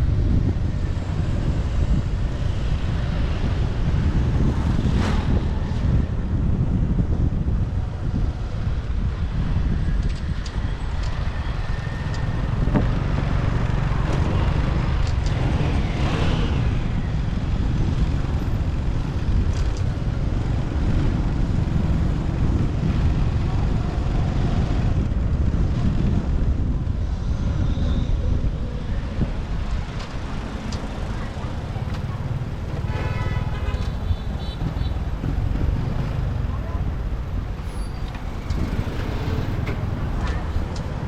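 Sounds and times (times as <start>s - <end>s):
vehicles passing: 0.0s - 41.0s
wind on microphone: 0.0s - 41.0s.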